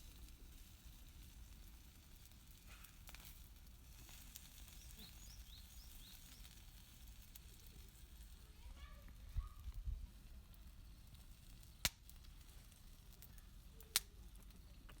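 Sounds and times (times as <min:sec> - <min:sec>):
faint crackles: 0:00.0 - 0:15.0.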